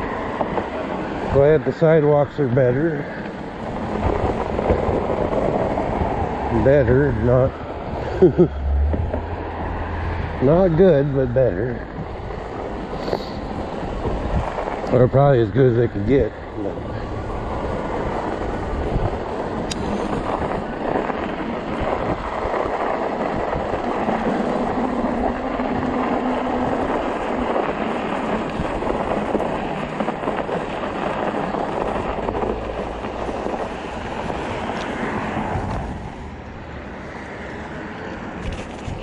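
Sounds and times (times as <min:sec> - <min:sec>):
bike tires rolling over snow: 0:00.0 - 0:39.0
wind buffeting microphone: 0:00.0 - 0:39.0.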